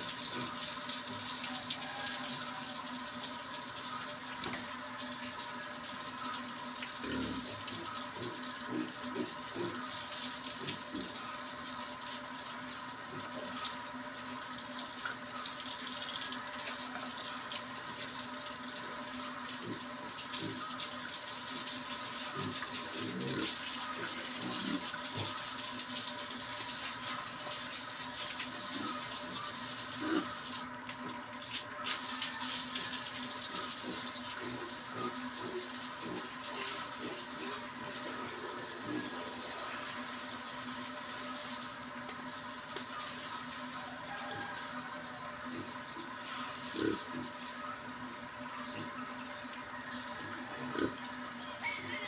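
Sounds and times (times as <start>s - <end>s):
hose spraying water on concrete: 0.0s - 49.0s.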